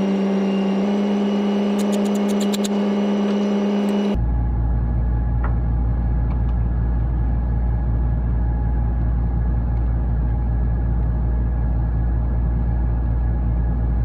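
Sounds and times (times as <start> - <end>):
low machinery drone: 0.0 - 14.0.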